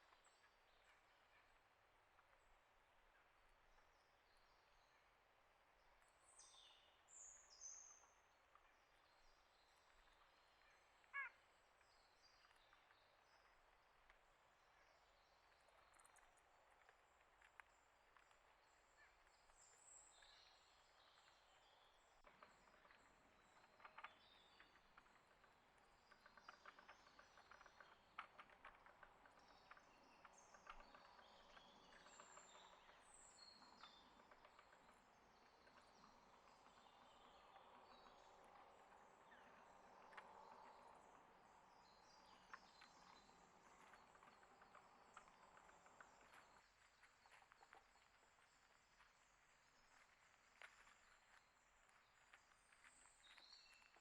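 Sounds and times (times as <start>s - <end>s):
faint ticks and clicks: 4.9s - 54.0s.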